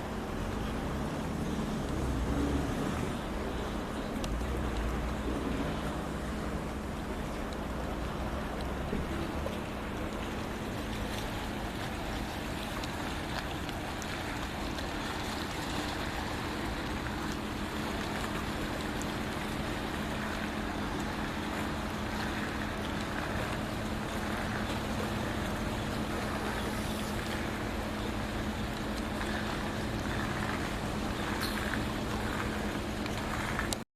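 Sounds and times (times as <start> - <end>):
boat engine hum: 0.0 - 33.8
water rushing past hull: 0.0 - 33.8.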